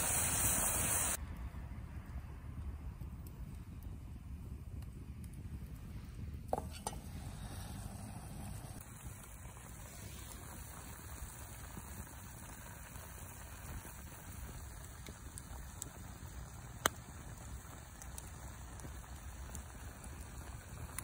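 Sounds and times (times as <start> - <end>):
fire crackle: 0.0 - 21.0
wood fire rumble and hiss: 0.0 - 21.0.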